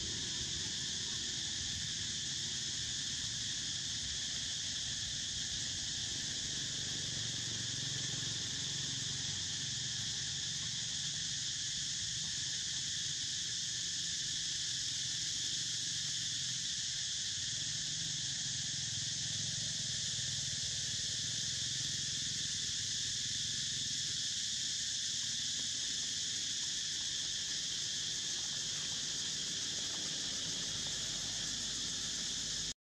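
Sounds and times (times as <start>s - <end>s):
insect chorus: 0.0s - 32.8s.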